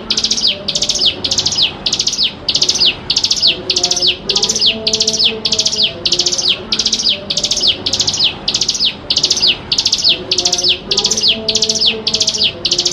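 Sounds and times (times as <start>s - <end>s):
bird singing high trilled phrase: 0.0s - 12.9s.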